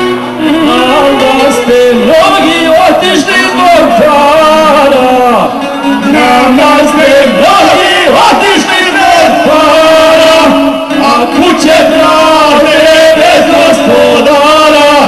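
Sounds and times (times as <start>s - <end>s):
two men singing folk song: 0.0s - 15.0s.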